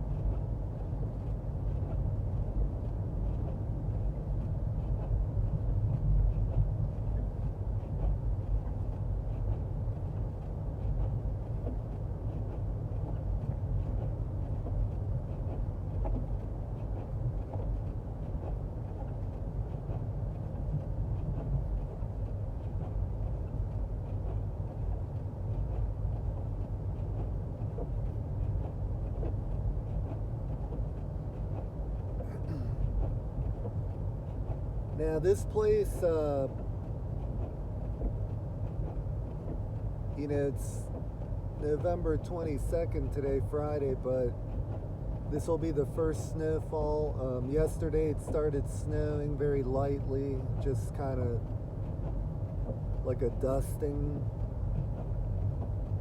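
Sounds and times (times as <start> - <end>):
road and tyre noise in car: 0.0 - 56.0.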